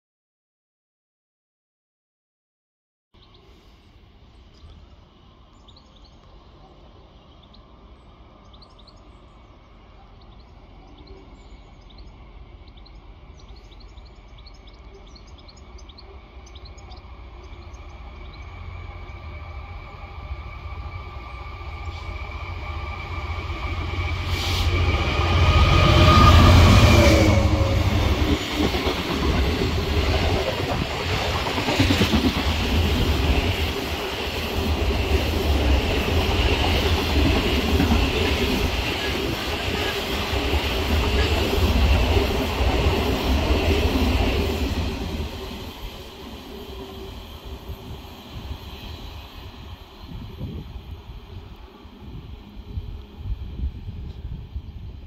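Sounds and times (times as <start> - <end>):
diesel locomotive engine passing: 3.2 - 55.0.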